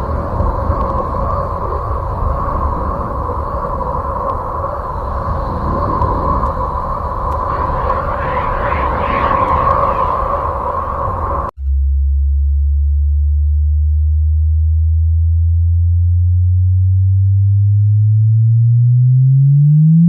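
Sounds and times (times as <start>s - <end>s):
low electronic tone rising: 0.0s - 20.0s
noisy rumble: 0.0s - 20.0s.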